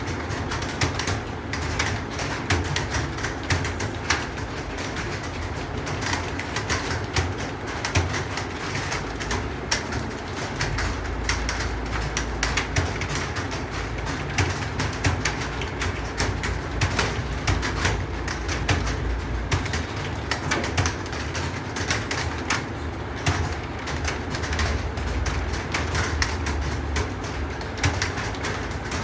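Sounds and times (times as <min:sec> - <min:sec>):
keyboard typing: 0:00.0 - 0:29.0.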